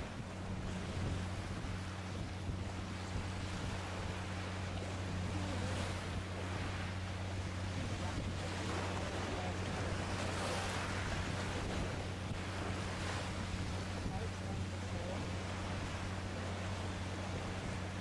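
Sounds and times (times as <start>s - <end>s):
low drone of ship engines: 0.0s - 18.0s
wind on microphone: 0.0s - 18.0s.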